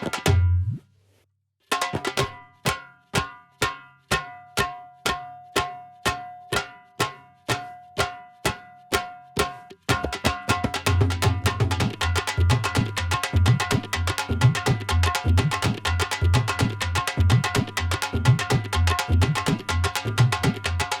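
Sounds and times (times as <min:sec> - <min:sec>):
tabla playing: 0:00.0 - 0:00.8, 0:01.7 - 0:21.0.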